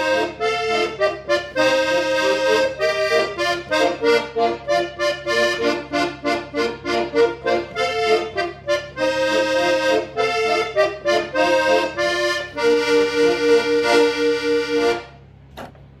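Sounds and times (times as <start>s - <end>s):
accordion playing a tango: 0.0s - 15.3s.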